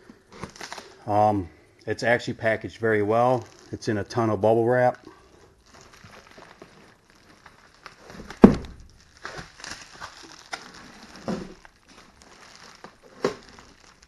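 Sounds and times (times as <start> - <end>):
bubble wrap crinkling: 0.0 - 1.1, 2.4 - 14.0.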